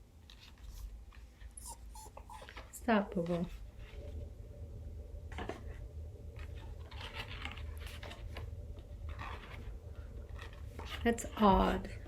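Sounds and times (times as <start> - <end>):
steady low hum: 0.9 - 12.0.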